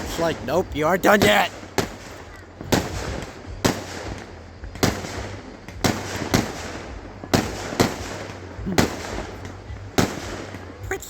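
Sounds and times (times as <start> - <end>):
firework booms: 0.0 - 11.0.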